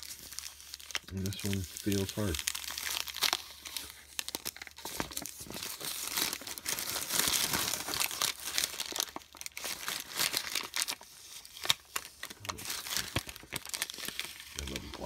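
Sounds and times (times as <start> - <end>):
paper wrapper crinkling: 0.0 - 15.0.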